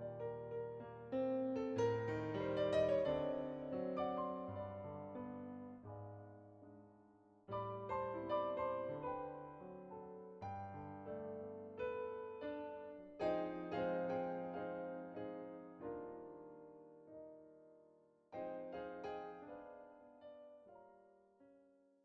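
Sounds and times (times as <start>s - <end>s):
slow solo piano: 0.0s - 21.8s.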